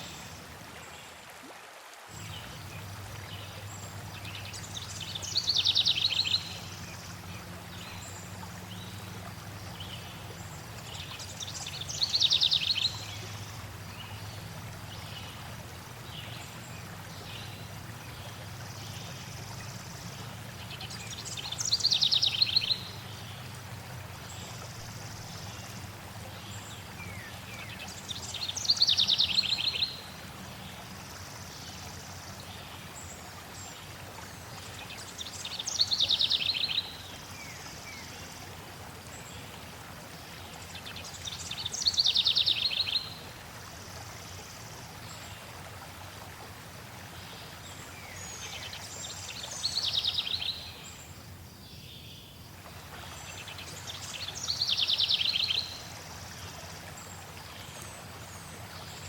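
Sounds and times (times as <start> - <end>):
flowing water: 0.0 - 59.0
songbird singing: 2.2 - 38.4, 40.4 - 43.3, 47.1 - 59.0.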